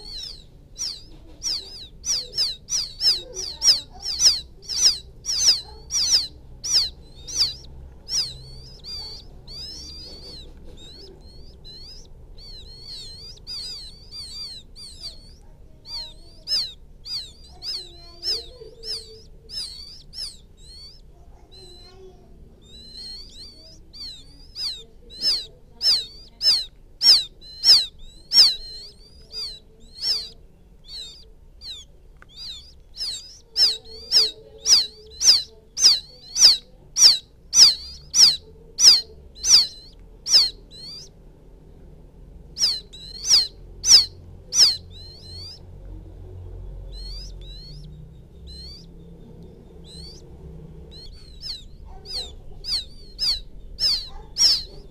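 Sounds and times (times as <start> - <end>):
quail chick peeping: 0.0 - 54.9.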